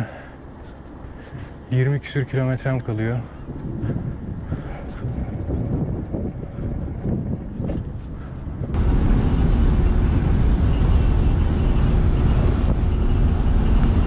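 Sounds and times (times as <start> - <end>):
van engine and road rumble: 0.0 - 14.0
wind buffeting microphone: 0.0 - 14.0
wind through open windows: 0.0 - 14.0.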